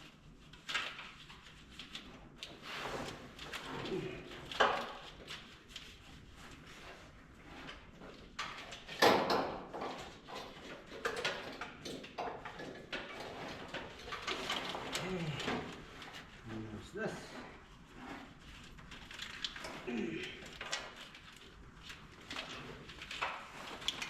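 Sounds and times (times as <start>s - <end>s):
wiring harness rustling and scraping: 0.0s - 24.0s.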